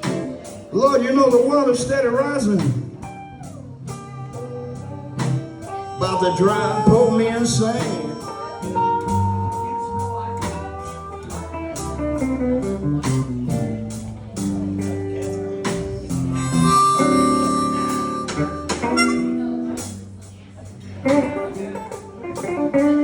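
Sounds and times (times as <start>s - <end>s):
blues band playing: 0.0s - 23.0s.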